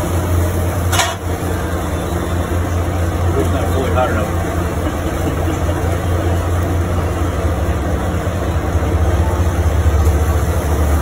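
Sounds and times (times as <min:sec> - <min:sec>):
kitchen machinery humming: 0:00.0 - 0:11.0
noisy wash: 0:00.0 - 0:11.0.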